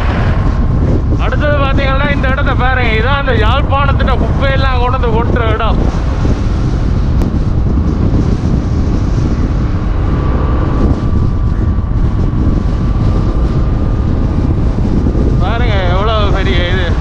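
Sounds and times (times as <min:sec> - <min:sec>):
motorcycle engine: 0:00.0 - 0:17.0
road noise: 0:00.0 - 0:17.0
wind buffeting microphone: 0:00.0 - 0:17.0.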